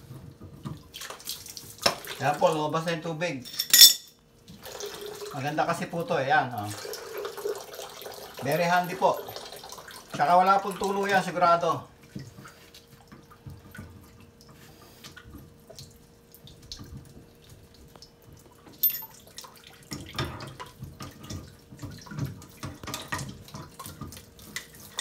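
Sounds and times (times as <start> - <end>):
water running into bucket: 4.5 - 25.0.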